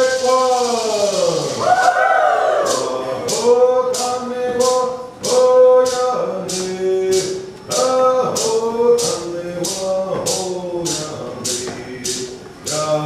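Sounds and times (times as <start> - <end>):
person singing long notes: 0.0 - 13.0
rattle shaken on a beat: 0.0 - 13.0.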